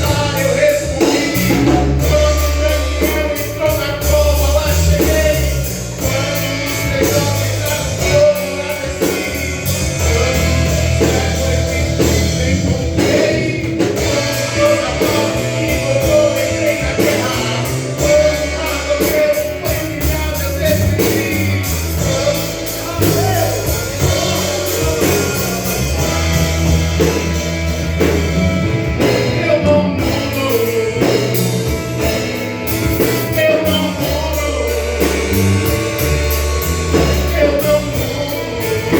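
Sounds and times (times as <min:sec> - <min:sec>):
band playing rock worship song: 0:00.0 - 0:38.9.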